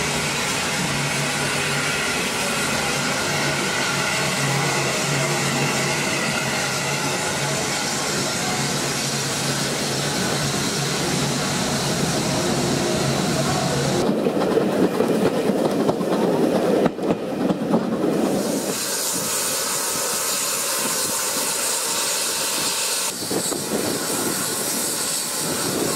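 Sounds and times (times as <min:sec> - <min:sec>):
steam hissing: 0:00.0 - 0:14.0, 0:17.9 - 0:25.9.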